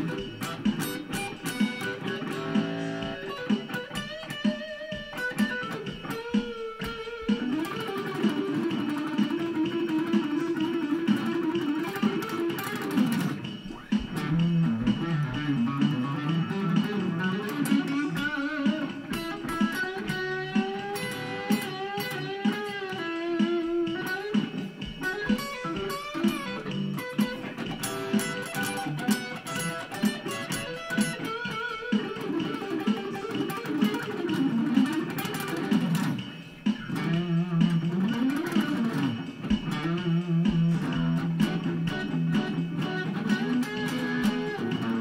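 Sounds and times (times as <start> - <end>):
guitar melody with bent notes: 0.0 - 45.0
low repeating guitar accompaniment: 0.0 - 45.0.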